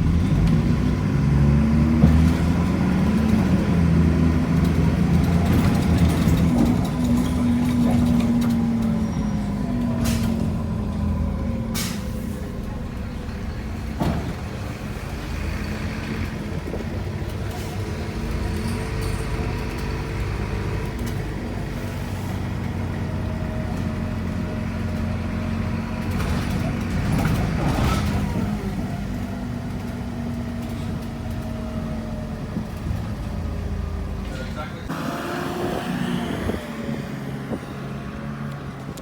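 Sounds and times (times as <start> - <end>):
diesel bus engine droning: 0.0 - 39.0.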